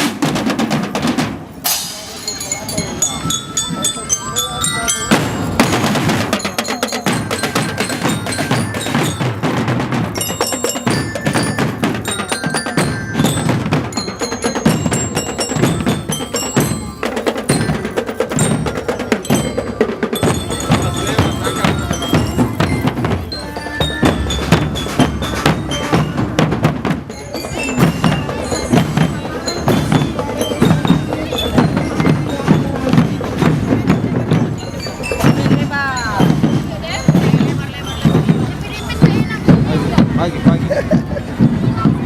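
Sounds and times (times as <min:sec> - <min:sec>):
drum strokes: 0:00.0 - 0:42.0
mallet bell melody: 0:01.6 - 0:41.5.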